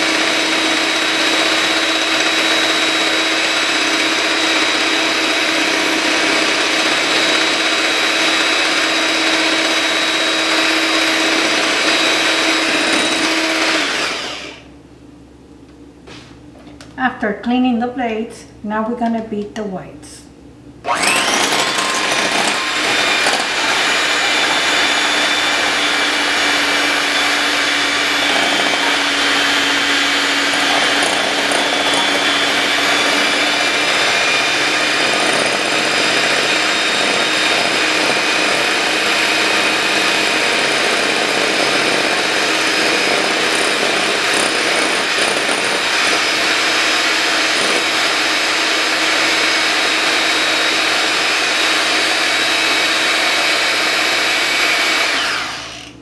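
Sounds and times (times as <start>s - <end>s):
electric hand mixer whisking: 0.0s - 14.7s, 20.9s - 56.0s.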